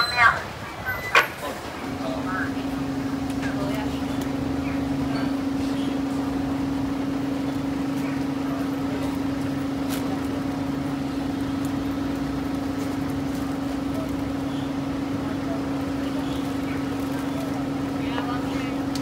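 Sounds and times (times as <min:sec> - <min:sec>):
busy street background: 0:00.0 - 0:19.0
low mechanical hum: 0:00.0 - 0:19.0.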